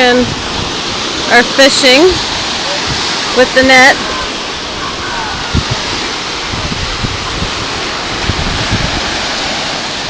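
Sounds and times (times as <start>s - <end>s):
ocean surf: 0.0s - 10.0s
wind buffeting microphone: 0.0s - 10.0s.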